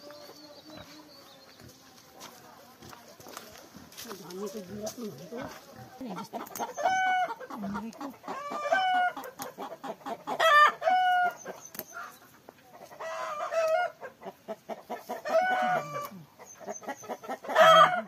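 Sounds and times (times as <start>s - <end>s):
chickens calling: 0.0s - 18.0s.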